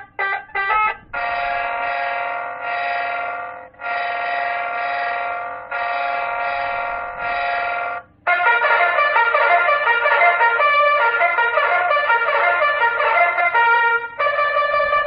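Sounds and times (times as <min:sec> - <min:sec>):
multi-tone horn blasts: 0:00.0 - 0:15.0.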